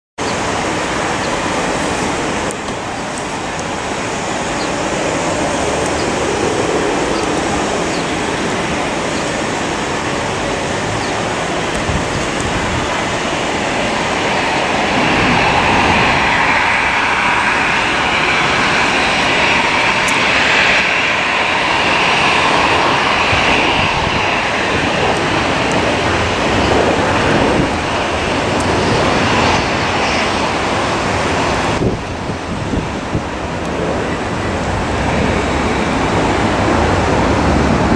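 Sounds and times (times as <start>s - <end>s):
jet engine whine: 0.2s - 37.9s
jet engines roaring: 0.2s - 37.9s.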